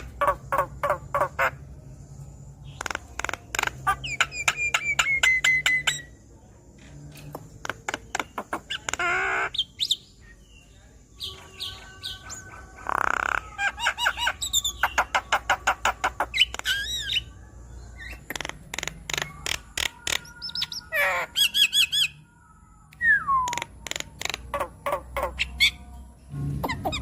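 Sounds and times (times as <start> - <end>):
bird chattering and whistling: 0.0 - 1.6, 2.7 - 6.2, 7.2 - 10.5, 11.2 - 17.3, 18.0 - 22.2, 23.0 - 25.9, 26.6 - 27.0.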